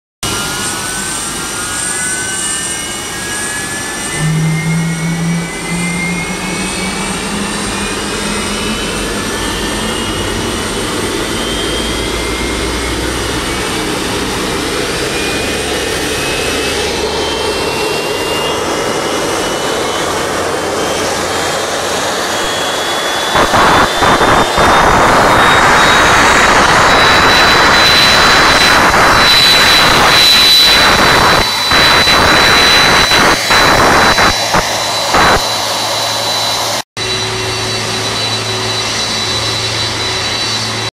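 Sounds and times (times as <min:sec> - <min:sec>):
jet engine high whine: 0:00.2 - 0:40.9
loud rushing roar: 0:00.2 - 0:40.9.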